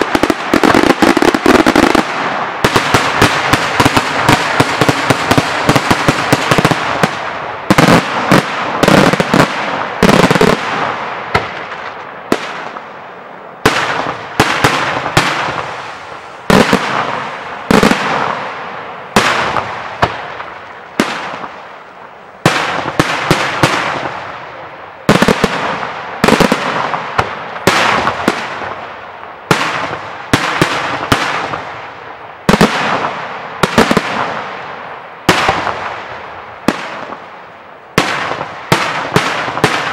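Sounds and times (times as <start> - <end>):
fireworks bursting with bangs: 0.0 - 39.9.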